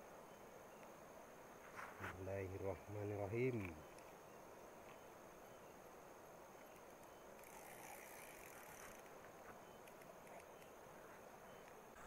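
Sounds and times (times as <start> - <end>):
faint hiss: 0.0 - 12.0
high-pitched insect trill: 1.5 - 12.0.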